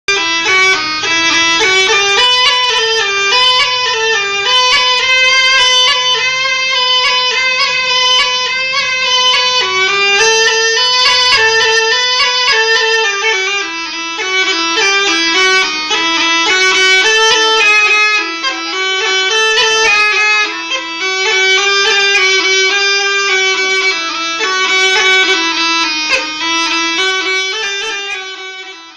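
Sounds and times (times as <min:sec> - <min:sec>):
reed pipe melody: 0:00.1 - 0:28.9.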